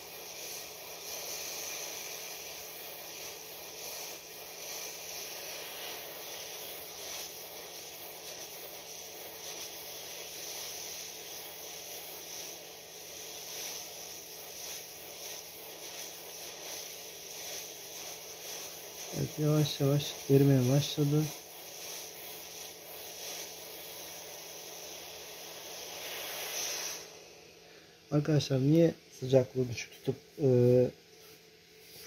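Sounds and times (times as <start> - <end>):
hot air nozzle hissing: 0.0 - 32.0.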